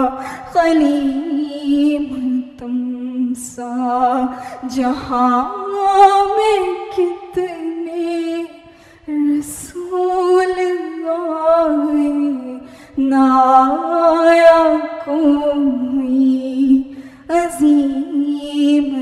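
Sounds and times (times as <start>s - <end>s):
woman singing unaccompanied: 0.0s - 19.0s.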